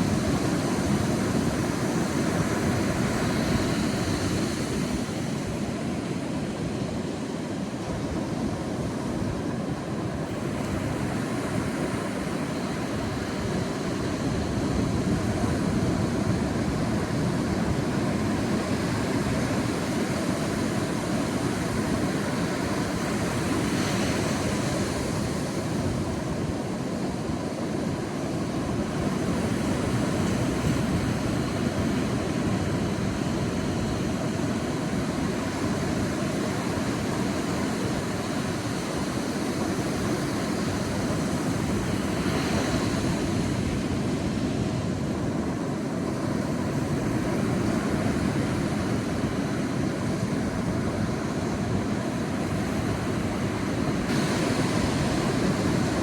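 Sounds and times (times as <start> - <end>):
surf rumble: 0.0 - 56.0
wave washing in: 0.0 - 56.0.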